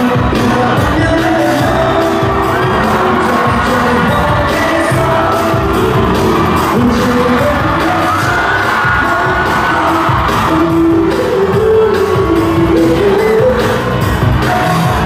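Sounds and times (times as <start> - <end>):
pop song over concert sound system: 0.0 - 15.0.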